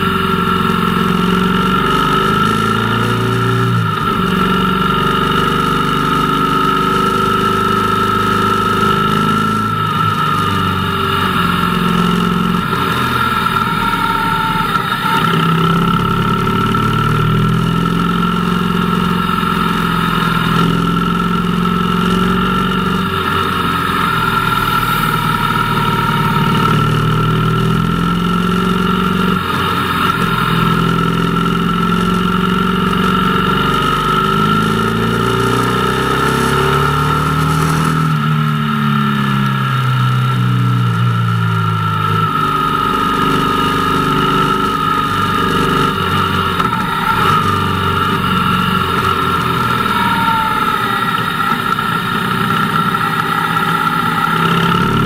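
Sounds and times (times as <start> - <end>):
steady high whine: 0.0 - 39.4, 40.9 - 55.0
motorcycle engine revving: 0.0 - 55.0.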